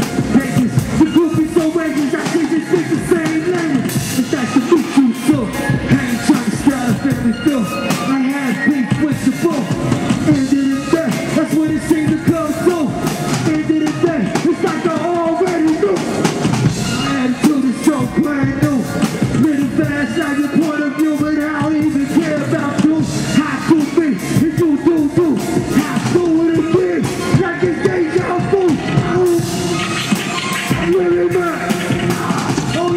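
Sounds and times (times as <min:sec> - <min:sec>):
drum-driven hip hop beat: 0:00.0 - 0:32.9.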